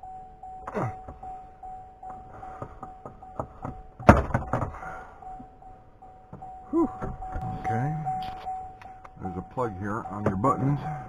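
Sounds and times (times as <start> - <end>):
steady high tone: 0.0 - 11.0.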